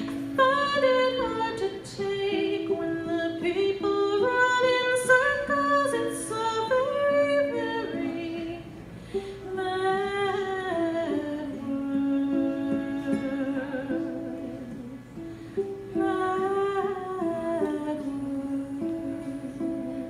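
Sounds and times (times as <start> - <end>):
strummed ukulele: 0.0 - 20.0.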